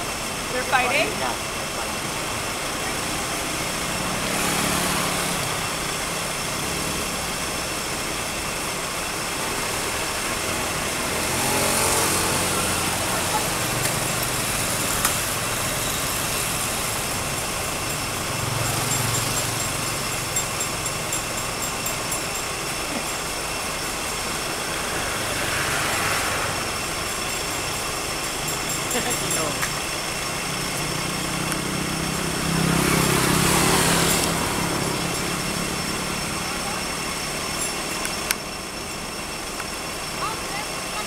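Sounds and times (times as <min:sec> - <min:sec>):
distant vehicles passing: 0:00.0 - 0:41.0.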